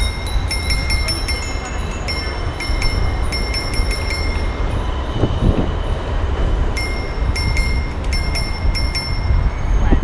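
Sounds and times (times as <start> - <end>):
bicycle bells ringing: 0.0 - 10.0
wind rumbling on microphone: 0.0 - 10.0.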